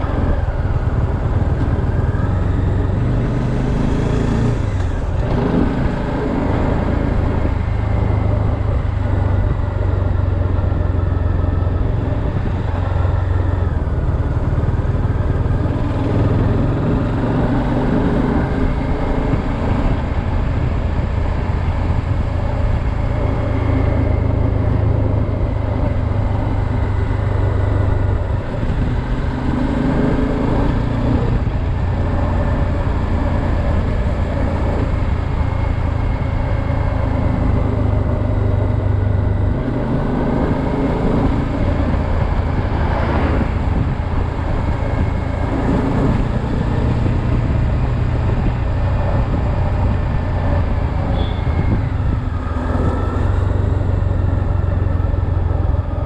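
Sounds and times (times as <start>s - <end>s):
motorcycle engine running: 0.0s - 56.0s
road noise: 0.0s - 56.0s
wind noise: 0.0s - 56.0s.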